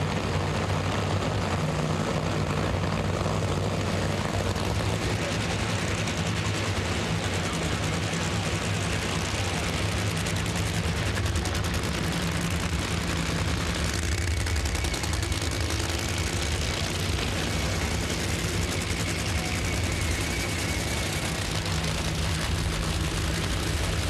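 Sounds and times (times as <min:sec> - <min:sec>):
drag racing engines rumbling: 0:00.0 - 0:24.0.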